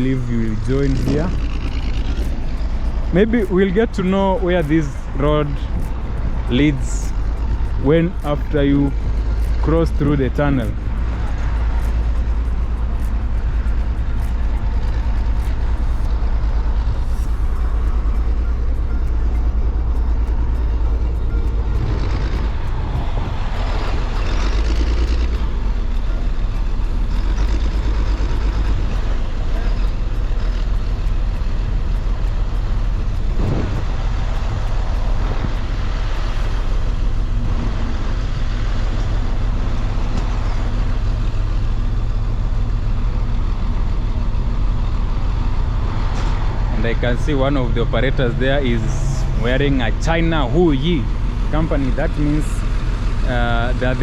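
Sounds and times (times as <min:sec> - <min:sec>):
construction machinery working: 0:00.0 - 0:54.0
heavy road traffic: 0:00.0 - 0:54.0.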